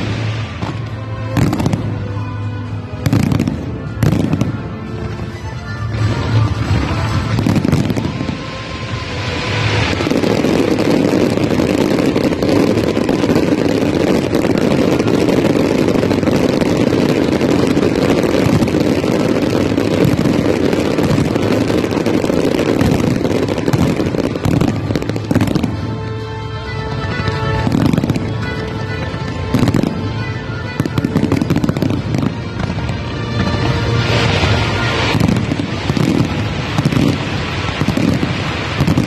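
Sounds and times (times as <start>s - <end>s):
fireworks rumbling roar with crackle: 0.0s - 39.0s.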